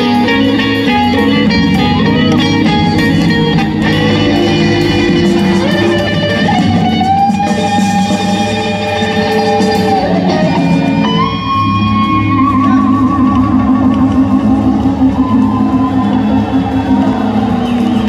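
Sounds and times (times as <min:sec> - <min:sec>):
bass and drums: 0:00.0 - 0:18.0
electric guitars playing: 0:00.0 - 0:18.0.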